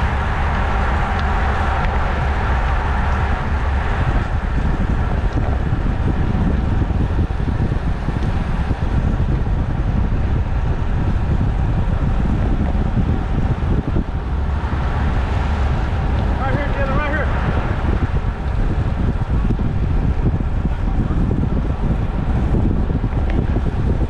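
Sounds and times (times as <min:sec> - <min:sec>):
tyres rolling on asphalt: 0:00.0 - 0:24.0
wind buffeting microphone: 0:00.0 - 0:24.0.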